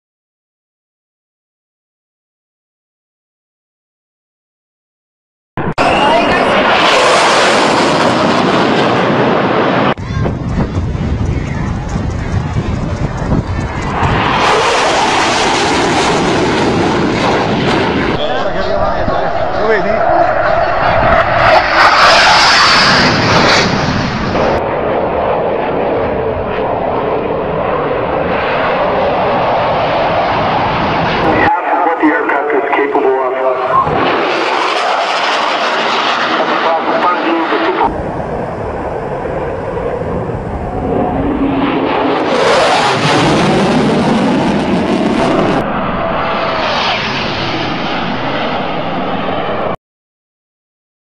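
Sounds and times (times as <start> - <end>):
fighter jet low pass: 5.6 - 49.8
second jet flying low: 5.6 - 49.8.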